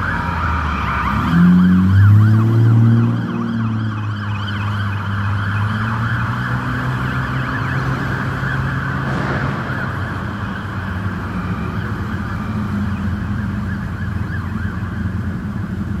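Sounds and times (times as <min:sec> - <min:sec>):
electronic siren sweeping: 0:00.0 - 0:15.9.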